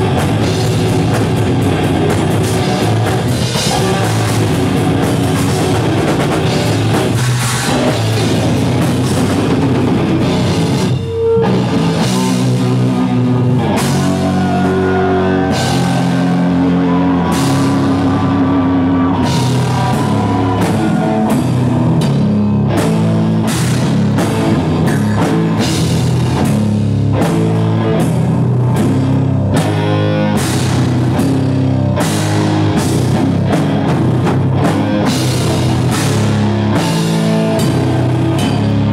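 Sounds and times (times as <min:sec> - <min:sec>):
bass guitar: 0:00.0 - 0:38.9
distorted guitars: 0:00.0 - 0:38.9
drum kit: 0:00.0 - 0:38.9.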